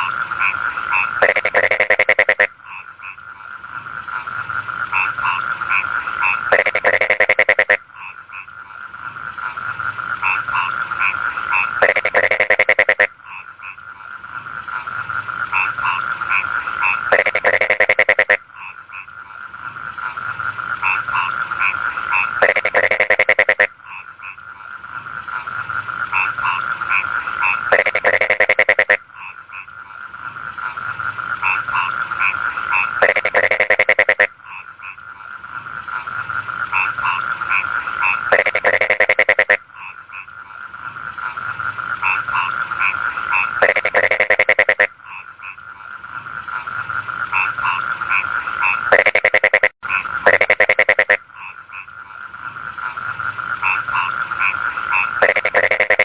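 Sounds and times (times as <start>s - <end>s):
frog chorus: 0.0s - 56.0s
frog pulsed call: 0.0s - 56.0s
short frog croaks: 0.0s - 56.0s.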